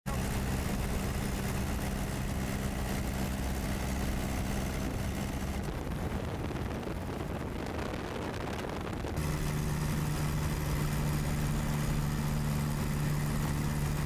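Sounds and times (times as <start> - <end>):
aircraft engine drone: 0.1 - 14.0.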